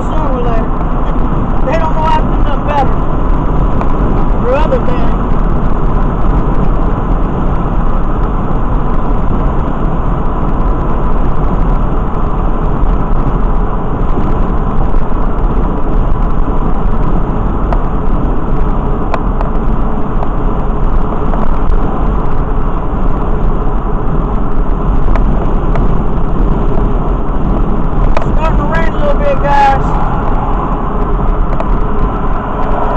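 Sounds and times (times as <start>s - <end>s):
vehicle road noise from inside cabin: 0.0s - 32.9s.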